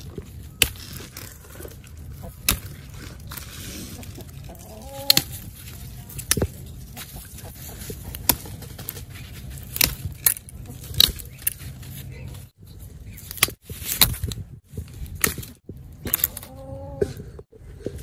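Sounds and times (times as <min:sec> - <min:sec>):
plant stems snapping and rustling: 0:00.0 - 0:12.5, 0:13.1 - 0:16.6.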